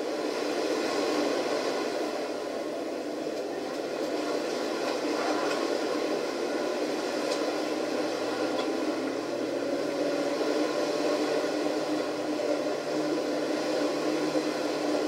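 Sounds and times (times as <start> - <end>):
ship rumbling underway: 0.0 - 15.0.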